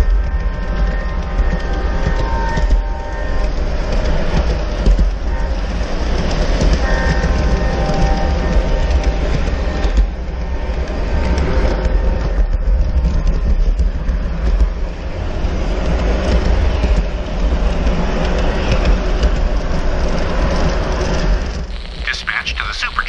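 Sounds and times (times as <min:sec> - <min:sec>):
model train wheels rumbling on rails: 0:00.0 - 0:21.6.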